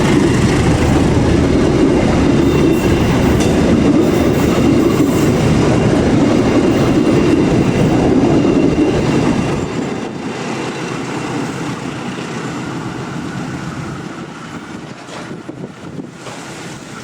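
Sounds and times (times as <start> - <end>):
passenger train rumble: 0.0 - 17.0.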